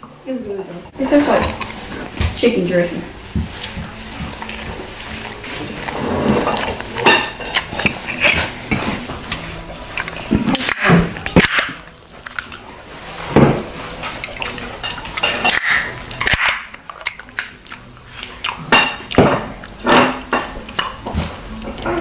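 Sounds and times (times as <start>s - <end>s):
close chewing and wet mouth sounds: 1.1s - 2.4s, 3.1s - 22.0s.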